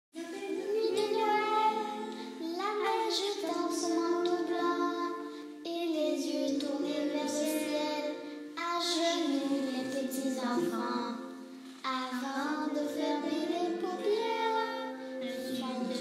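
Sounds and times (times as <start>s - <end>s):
musical accompaniment: 0.1s - 16.0s
girls singing: 0.2s - 16.0s.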